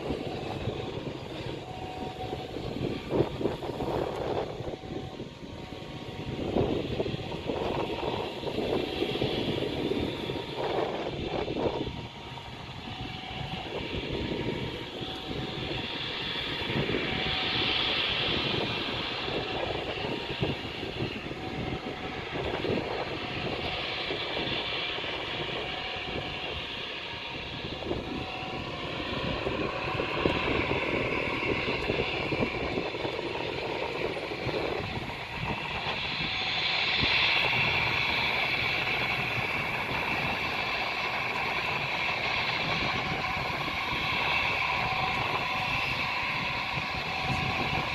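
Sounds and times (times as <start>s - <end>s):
airliner engines roaring: 0.0s - 47.9s
wind buffeting microphone: 0.0s - 47.9s.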